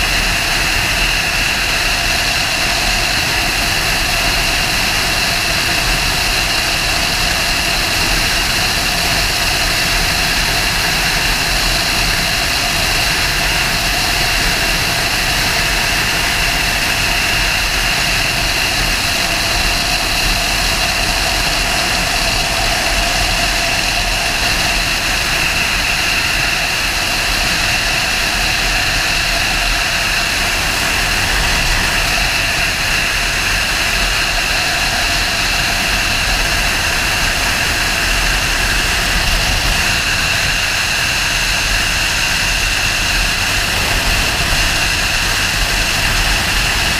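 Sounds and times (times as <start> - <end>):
motorcycle engine cruising: 0.0 - 46.9
wind noise on microphone: 0.0 - 46.9.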